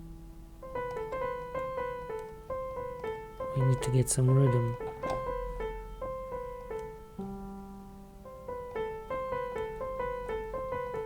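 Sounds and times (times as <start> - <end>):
piano notes: 0.0 - 11.0.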